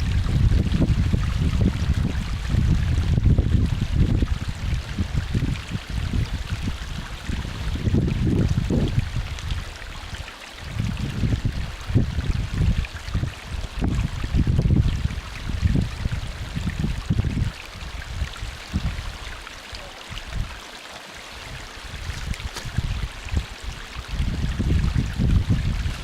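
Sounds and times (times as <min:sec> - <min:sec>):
wind gusting on microphone: 0:00.0 - 0:19.4, 0:20.0 - 0:20.6, 0:21.2 - 0:26.0
stream running over its bed: 0:00.0 - 0:26.0.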